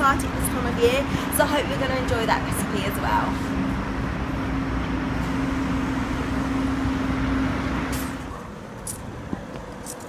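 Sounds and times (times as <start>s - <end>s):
road noise: 0.0s - 10.0s
vehicle humming: 0.0s - 10.0s.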